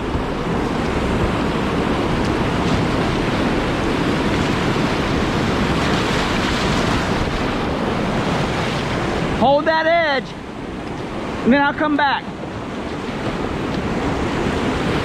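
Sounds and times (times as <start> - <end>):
river rapid rushing: 0.0 - 15.0.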